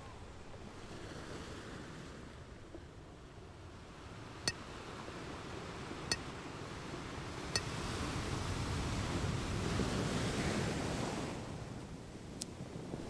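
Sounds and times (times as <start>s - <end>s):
gentle surf: 0.0s - 13.0s
wind: 0.0s - 13.0s.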